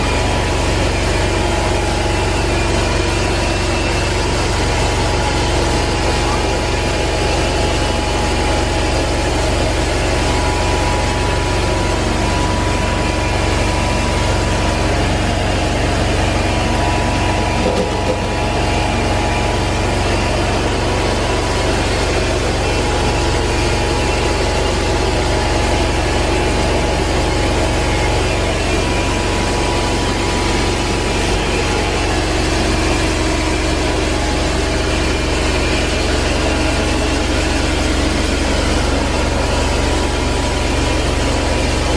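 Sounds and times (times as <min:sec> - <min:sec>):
carpet extraction machine running: 0:00.0 - 0:41.9.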